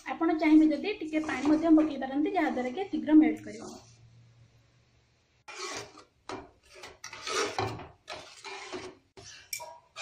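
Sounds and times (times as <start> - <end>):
metal spatula scraping a pan: 0.0 - 4.0, 5.5 - 10.0.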